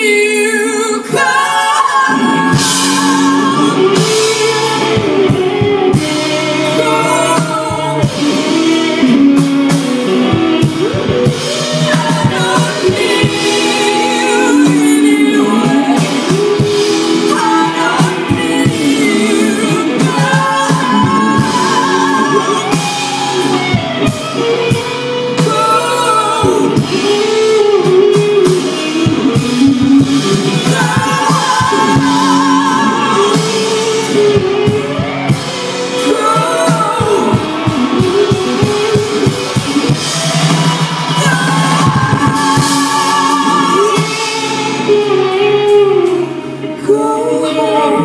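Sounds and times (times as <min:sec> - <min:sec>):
woman singing with vibrato: 0:00.0 - 0:24.5, 0:25.2 - 0:48.0
drum kit: 0:00.0 - 0:48.0
electric guitar: 0:00.0 - 0:48.0
keyboards: 0:00.0 - 0:48.0.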